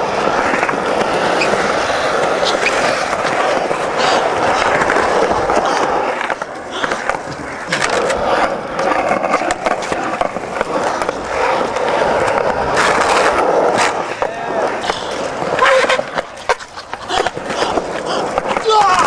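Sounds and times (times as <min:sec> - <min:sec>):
skateboard clacks popping and landing: 0:00.0 - 0:19.0
skateboard wheels rolling on concrete: 0:00.0 - 0:19.0.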